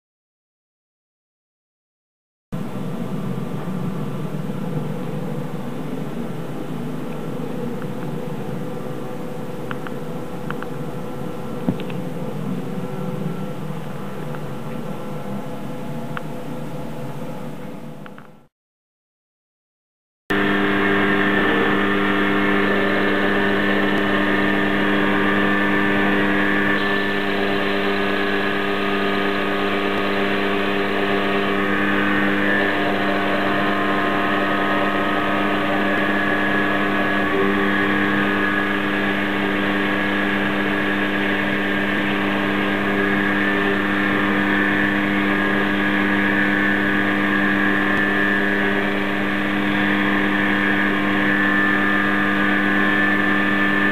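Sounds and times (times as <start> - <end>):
lathe hum and whine: 2.6 - 18.5, 20.3 - 53.9.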